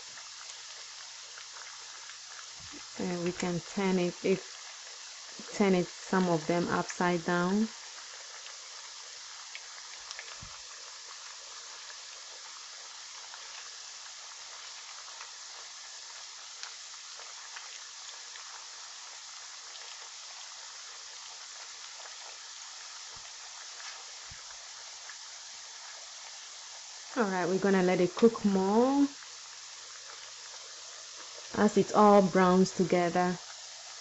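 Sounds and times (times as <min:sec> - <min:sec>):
meat sizzling in oil: 0:00.0 - 0:34.0.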